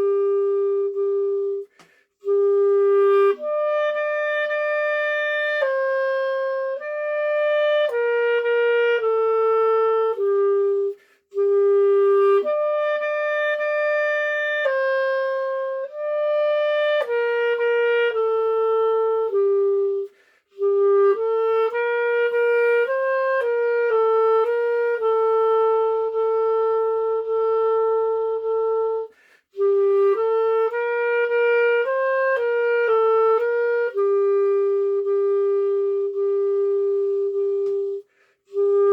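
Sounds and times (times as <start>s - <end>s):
solo clarinet melody: 0.0s - 38.9s.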